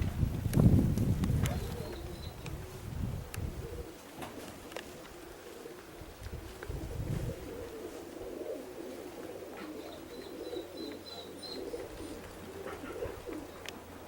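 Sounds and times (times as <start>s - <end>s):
pigeons cooing: 1.3s - 14.0s.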